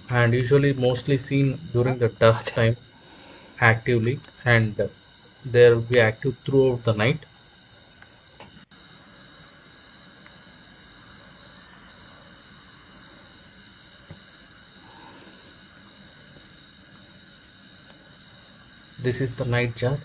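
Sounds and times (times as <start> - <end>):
crickets chirping: 0.0 - 20.0
steady high insect trilling: 0.0 - 20.0.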